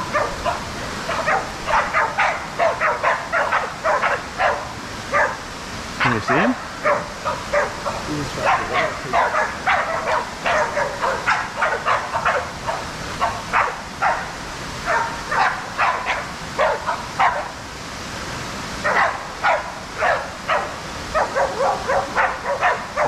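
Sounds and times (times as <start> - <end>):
dogs barking: 0.0 - 17.6, 18.8 - 23.0.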